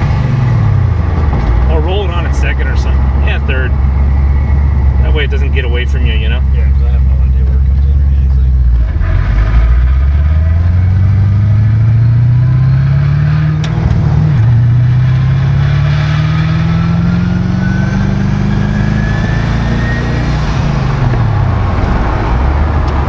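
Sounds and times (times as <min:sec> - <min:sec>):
car engine accelerating: 0:00.0 - 0:23.0
rising turbo whine: 0:00.0 - 0:23.0.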